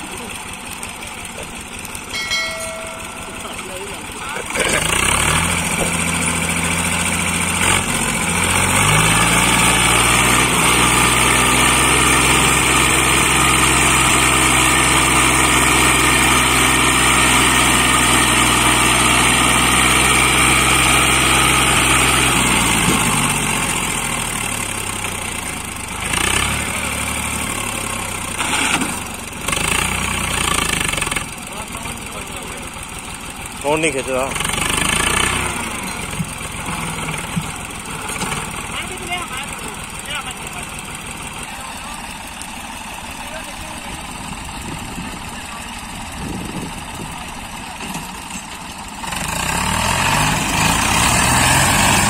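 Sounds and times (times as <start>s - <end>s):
tractor diesel engine straining: 0.0s - 52.0s.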